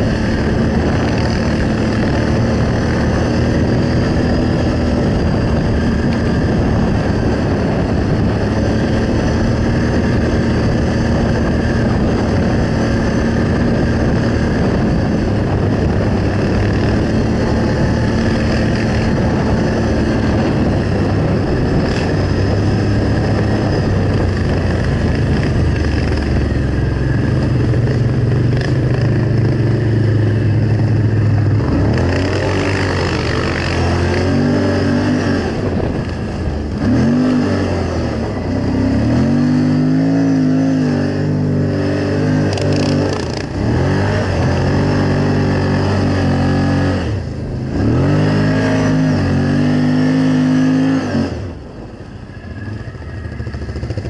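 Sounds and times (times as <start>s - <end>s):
snowmobile engine revving: 0.0s - 51.9s.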